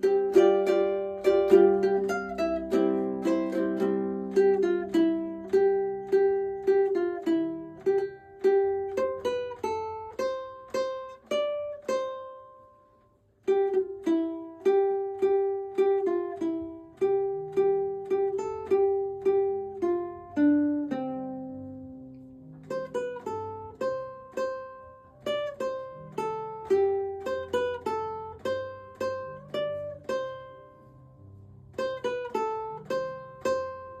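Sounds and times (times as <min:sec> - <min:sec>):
plucked string instrument melody: 0:00.0 - 0:34.0.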